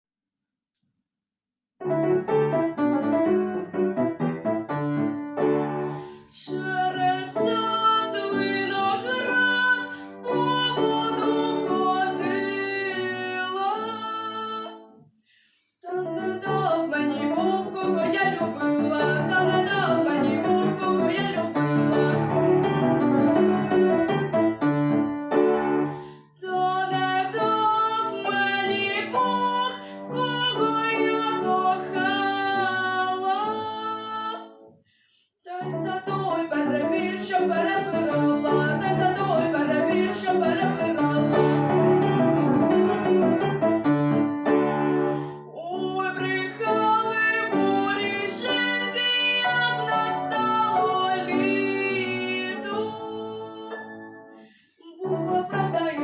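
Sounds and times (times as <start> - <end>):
piano music: 1.8 - 14.9, 16.1 - 34.7, 35.6 - 56.0.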